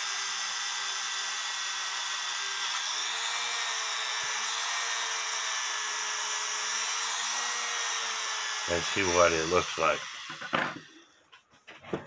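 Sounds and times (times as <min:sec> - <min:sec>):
rotary tool whining: 0:00.0 - 0:11.1.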